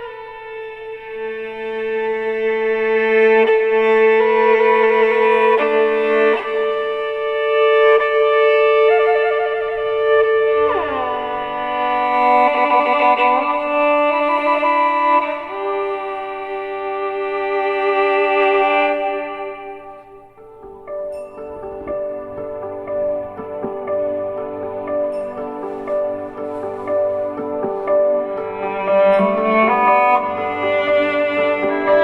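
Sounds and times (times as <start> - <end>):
bowed string music through speaker: 0.0 - 20.4, 21.1 - 32.0.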